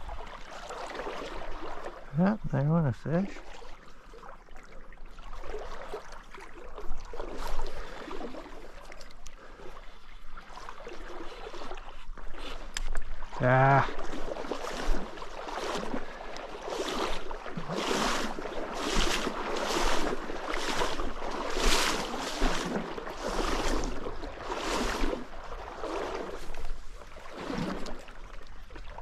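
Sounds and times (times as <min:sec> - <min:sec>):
water swishing and sloshing: 0:00.0 - 0:29.0.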